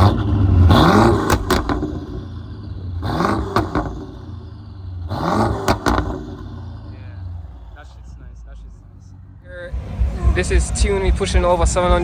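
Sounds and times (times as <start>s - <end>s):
car engine revving: 0.0s - 12.0s
exhaust cracks: 0.0s - 12.0s.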